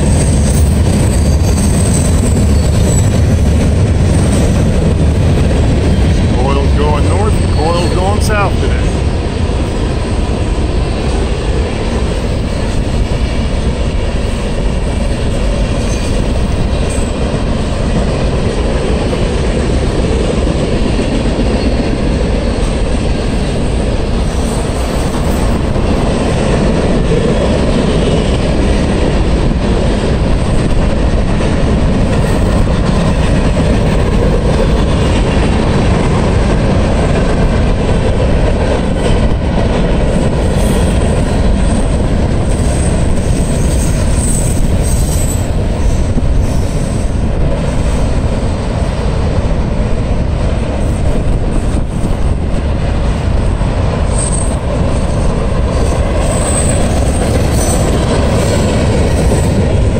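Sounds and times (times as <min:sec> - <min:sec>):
freight train wheels clattering on rail: 0:00.0 - 0:59.9.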